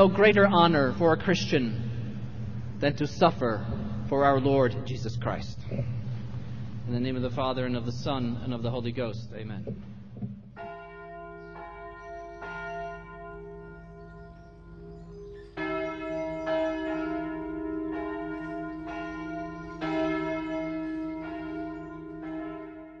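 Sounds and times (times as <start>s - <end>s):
church bells ringing: 0.0s - 9.1s, 10.6s - 23.0s.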